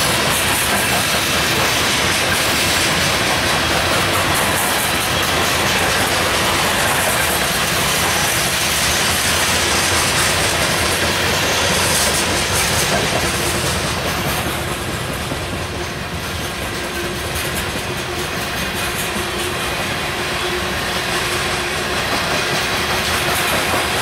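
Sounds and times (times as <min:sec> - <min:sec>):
steel wheels running on rails: 0:00.0 - 0:24.0.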